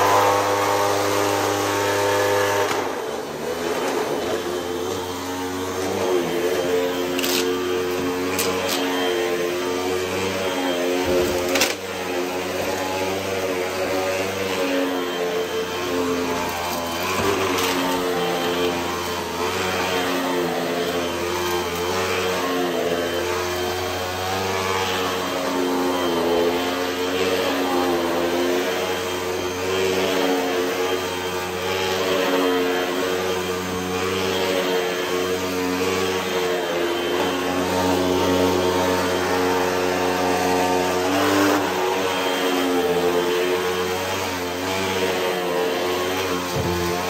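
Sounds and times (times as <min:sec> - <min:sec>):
vacuum cleaner running: 0:00.0 - 0:47.0.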